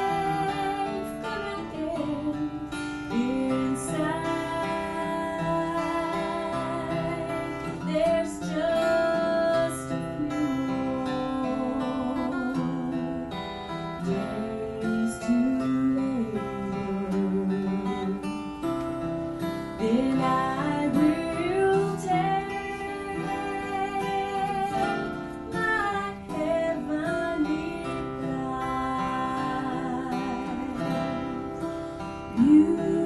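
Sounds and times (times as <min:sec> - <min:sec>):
woman singing with vibrato: 0:00.0 - 0:18.8, 0:19.4 - 0:33.0
strummed acoustic guitar: 0:00.0 - 0:33.0.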